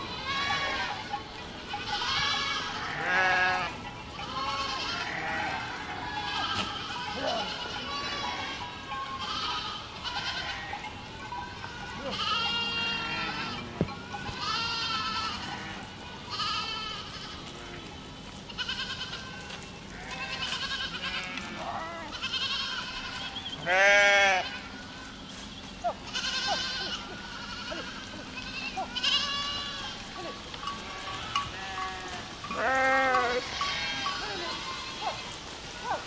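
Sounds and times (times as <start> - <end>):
goats bleating: 0.0 - 36.0.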